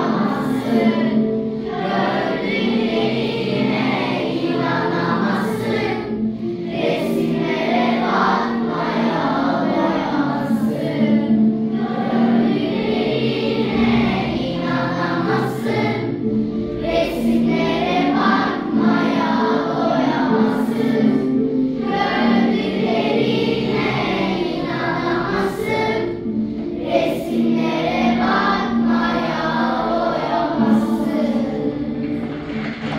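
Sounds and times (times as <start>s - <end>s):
children's choir singing: 0.0s - 32.9s.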